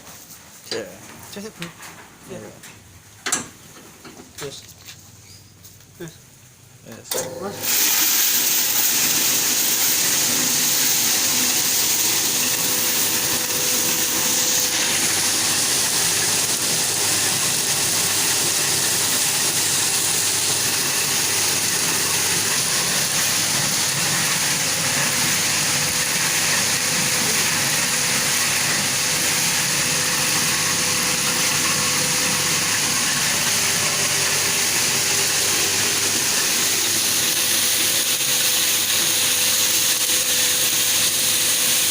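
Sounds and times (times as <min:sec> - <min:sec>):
machine hissing and humming: 0:07.1 - 0:41.9.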